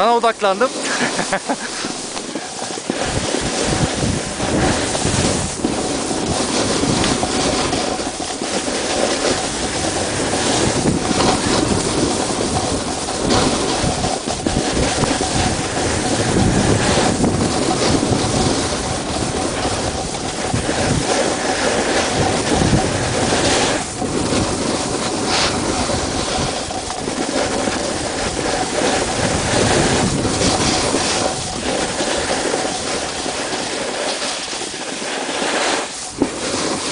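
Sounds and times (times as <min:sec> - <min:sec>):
wind noise on microphone: 0:00.0 - 0:36.9.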